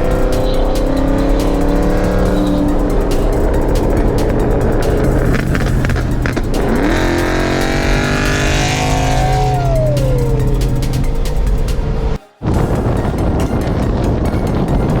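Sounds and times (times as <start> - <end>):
car engine revving: 0.0 - 12.2
steady low drone: 0.0 - 15.0.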